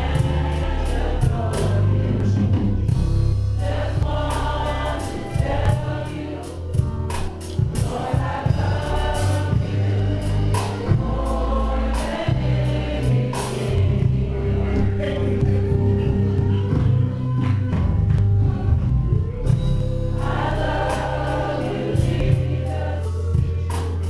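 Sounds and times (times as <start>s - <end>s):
bass and drums: 0.0s - 24.0s
choir singing gospel: 0.0s - 24.0s.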